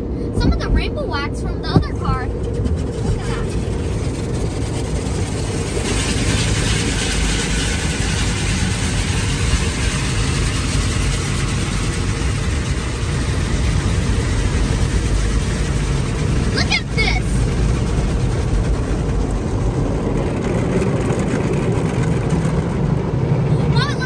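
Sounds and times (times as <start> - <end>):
low rumble: 0.0 - 24.0
car wash water spray hissing: 2.1 - 24.0.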